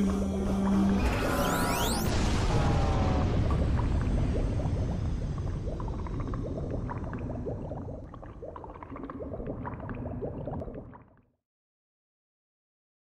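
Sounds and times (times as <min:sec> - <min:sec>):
low rumble: 0:00.0 - 0:10.7
bubbling gurgling liquid: 0:00.0 - 0:11.4.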